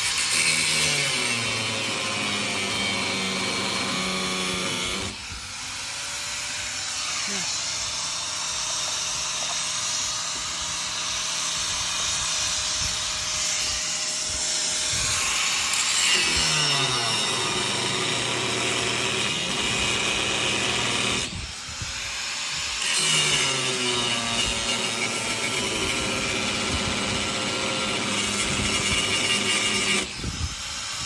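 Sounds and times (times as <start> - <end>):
power tool motor cutting: 0.0 - 31.0.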